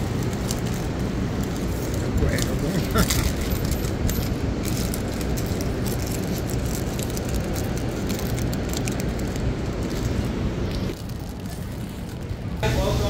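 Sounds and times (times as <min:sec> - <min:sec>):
plastic wrappers crinkling: 0:00.0 - 0:12.6
city street traffic: 0:00.0 - 0:13.0.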